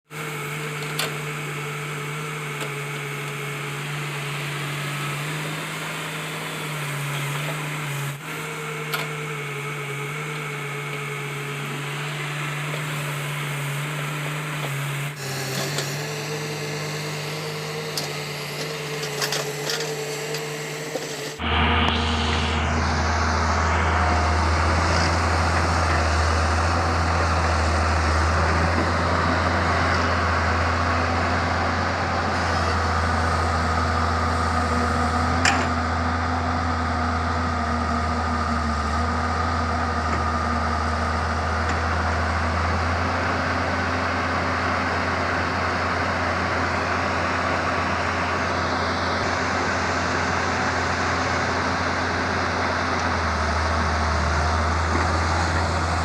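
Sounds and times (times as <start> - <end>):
excavator diesel engine running: 0.1 - 56.0.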